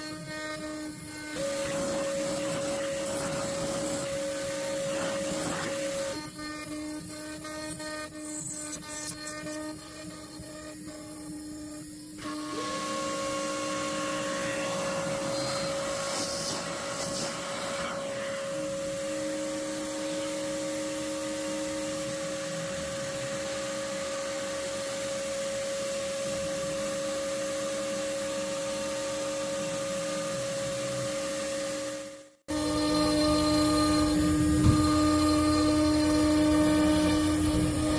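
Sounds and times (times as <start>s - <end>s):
router spindle whine: 0.0s - 37.9s.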